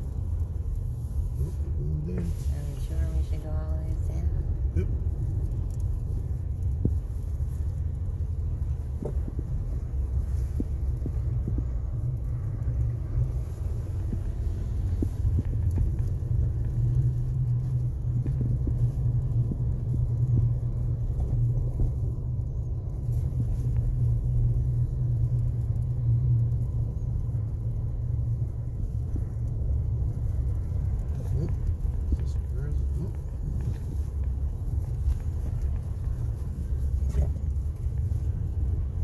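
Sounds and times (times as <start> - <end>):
car rumbling over snowy road: 0.0 - 39.0.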